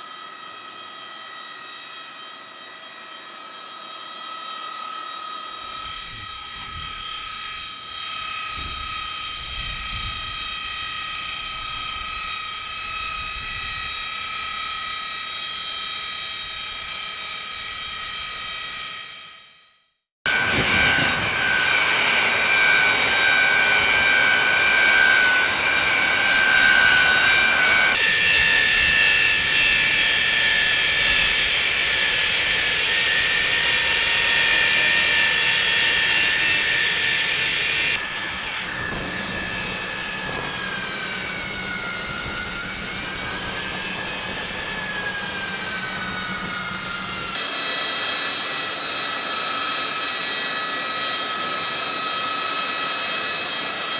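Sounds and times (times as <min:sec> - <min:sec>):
jet engine whine and roar: 0:00.0 - 0:53.9.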